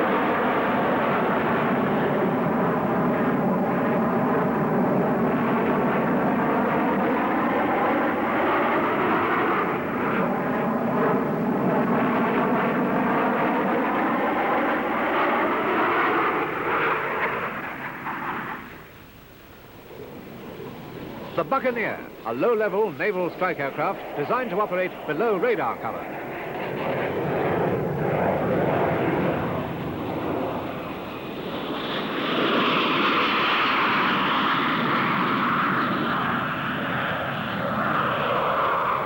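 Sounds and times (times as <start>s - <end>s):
jet aircraft roar: 0.0s - 39.0s.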